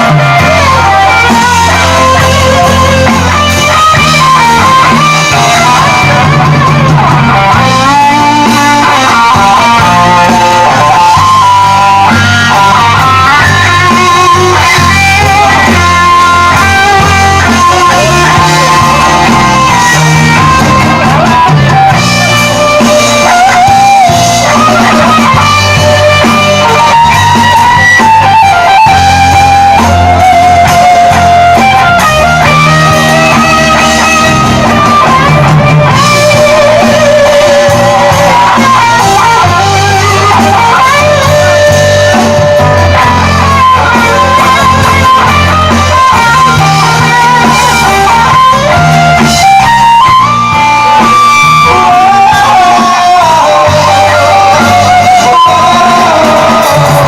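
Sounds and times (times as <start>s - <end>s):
lead electric guitar bent notes: 0.0s - 57.0s
rock band playing: 0.0s - 57.0s.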